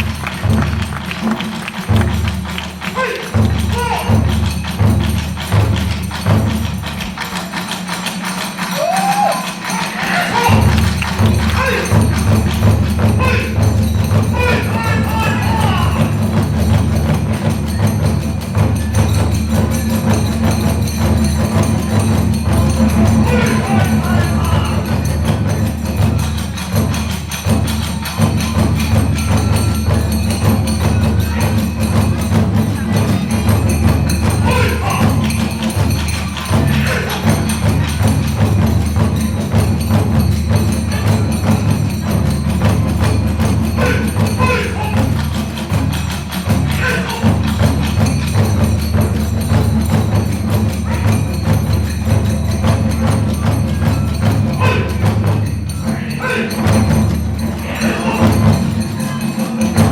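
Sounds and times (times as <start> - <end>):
hand cymbals clashing: 0.0 - 59.9
taiko drums beating: 0.0 - 59.9.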